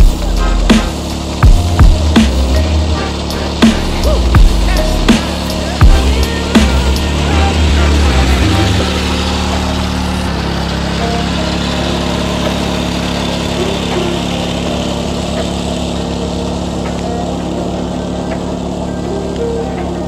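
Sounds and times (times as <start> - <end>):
mower engine running: 0.0 - 20.0.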